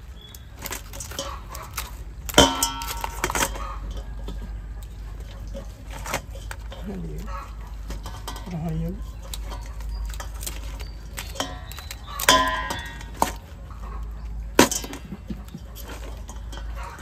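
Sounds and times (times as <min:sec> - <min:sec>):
kitchenware clinking and clattering: 0:00.5 - 0:17.0.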